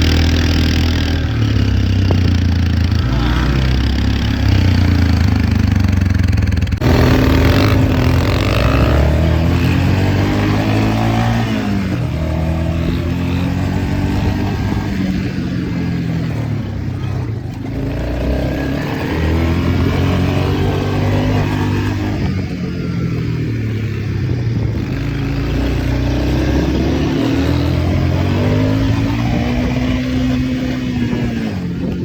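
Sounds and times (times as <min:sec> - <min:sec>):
vehicle engine revving: 0:00.0 - 0:32.0.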